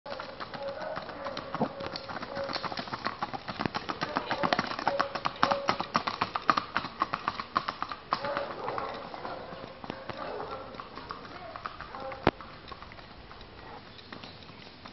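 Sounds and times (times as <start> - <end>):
horse hooves clip-clopping: 0.1 - 14.9.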